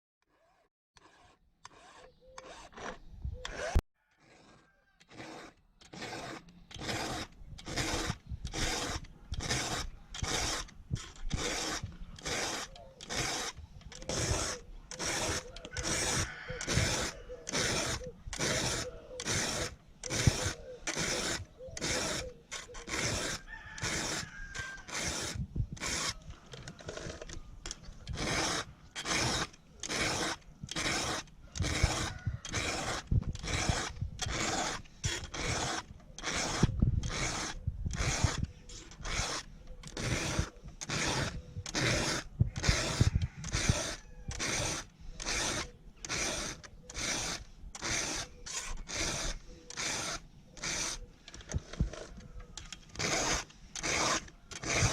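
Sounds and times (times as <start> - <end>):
file rasping on chain: 0.3 - 54.9.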